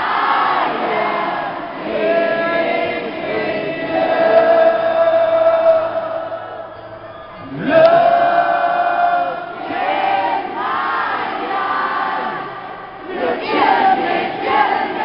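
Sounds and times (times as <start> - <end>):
crowd singing: 0.0 - 15.0.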